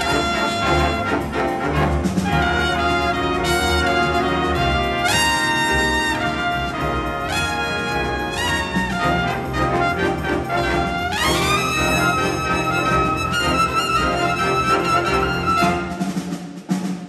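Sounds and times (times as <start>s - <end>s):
jazz big band brass chords: 0.0s - 16.8s.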